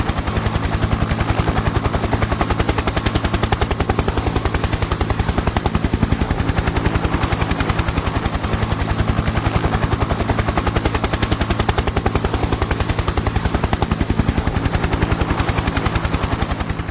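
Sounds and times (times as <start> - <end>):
helicopter rotor beating: 0.0 - 16.9
low engine hum: 0.0 - 16.9.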